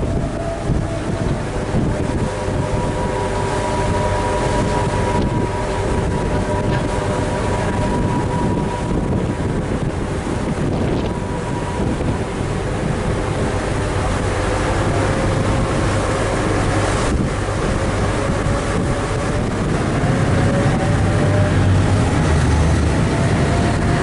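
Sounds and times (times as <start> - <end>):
boat engines running: 0.0 - 24.0
faint whine rising in pitch: 0.0 - 24.0
water rushing past hull: 0.0 - 24.0
wind on microphone: 0.0 - 24.0.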